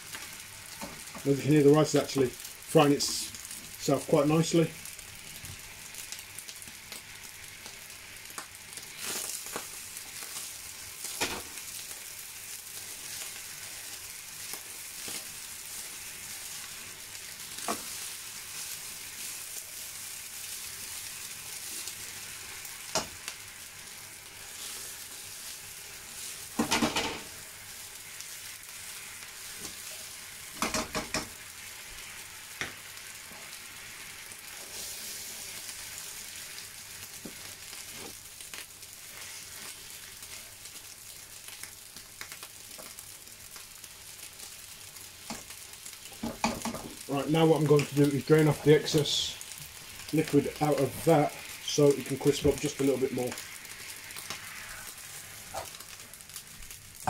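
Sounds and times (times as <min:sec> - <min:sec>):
rice sizzling in a pan: 0:00.0 - 0:57.0.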